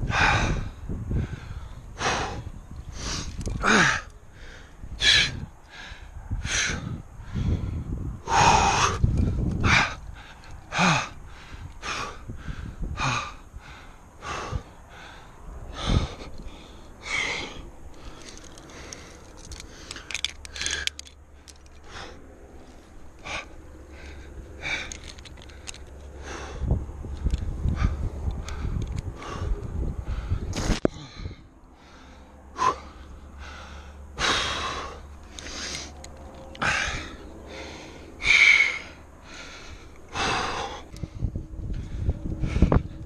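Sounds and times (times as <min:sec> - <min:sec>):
person breathing hard: 0:00.0 - 0:43.0.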